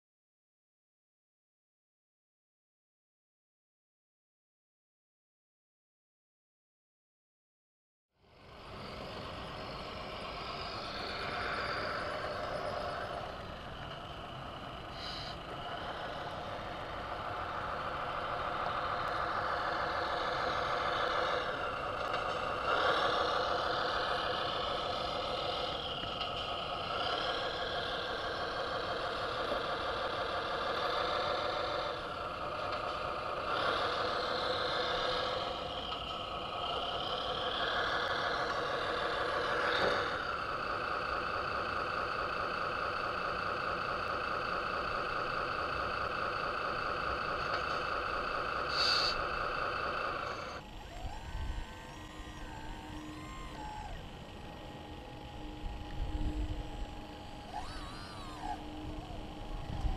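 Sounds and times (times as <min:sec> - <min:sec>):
simulated diesel engine from speaker: 0:08.2 - 0:59.9.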